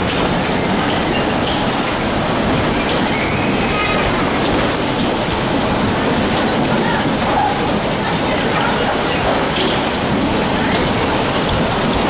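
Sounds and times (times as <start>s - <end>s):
bumper cars rumbling and rattling: 0.0s - 12.0s.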